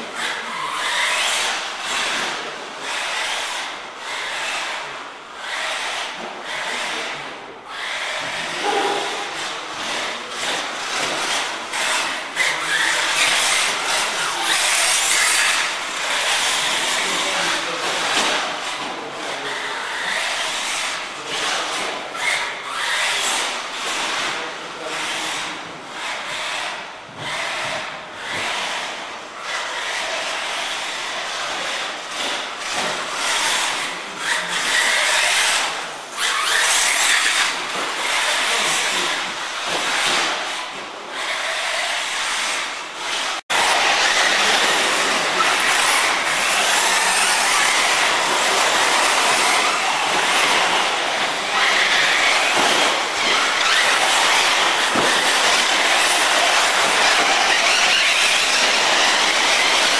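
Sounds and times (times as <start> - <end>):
rc buggy drivetrain hiss: 0.1 - 6.9, 7.7 - 59.9.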